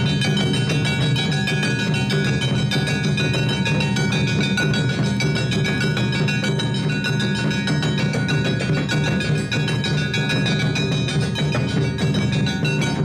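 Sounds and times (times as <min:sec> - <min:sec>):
clanging hand gongs: 0:00.0 - 0:13.0
taiko drums: 0:00.0 - 0:13.0.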